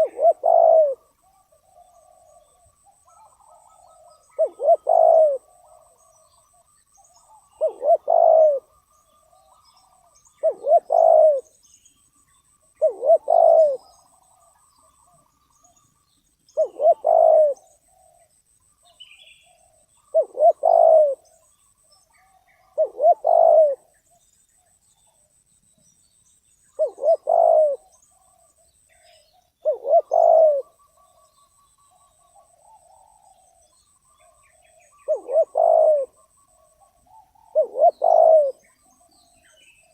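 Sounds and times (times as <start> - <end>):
dove cooing: 0.0 - 11.6, 12.6 - 15.3, 16.5 - 18.3, 19.2 - 21.4, 22.1 - 24.0, 26.8 - 39.9.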